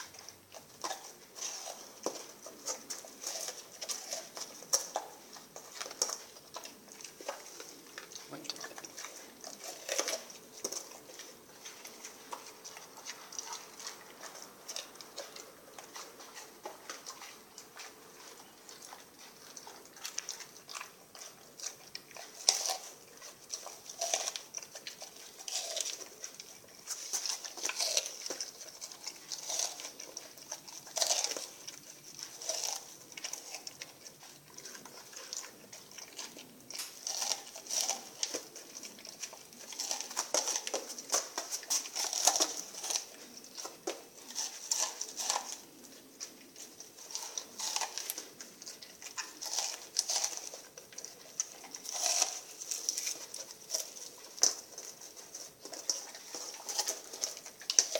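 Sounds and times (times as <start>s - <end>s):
dog chewing with wet crunching: 0.0s - 57.9s.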